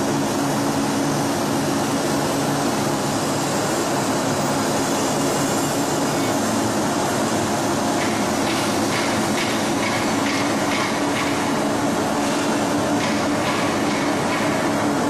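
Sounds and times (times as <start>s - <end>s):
rolling mill running: 0.0s - 15.0s.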